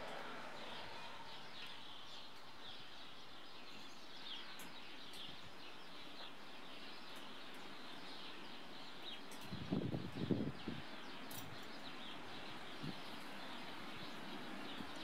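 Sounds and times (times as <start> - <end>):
small birds chirping: 0.0 - 15.0
steady outdoor hiss: 0.0 - 15.0.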